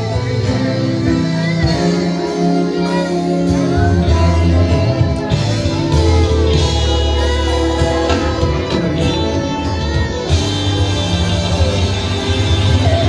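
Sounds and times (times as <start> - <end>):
gospel music with singing: 0.0 - 13.0.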